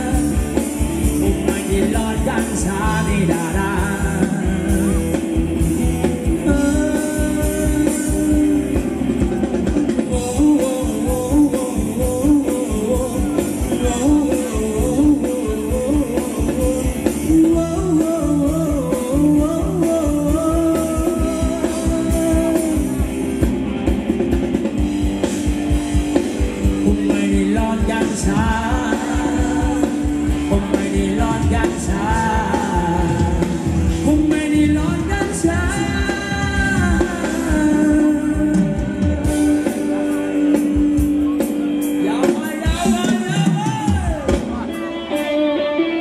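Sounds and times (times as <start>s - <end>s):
person singing: 0.0s - 23.2s, 26.1s - 46.0s
steady drum beat: 0.0s - 44.9s
live band dance music: 0.0s - 46.0s.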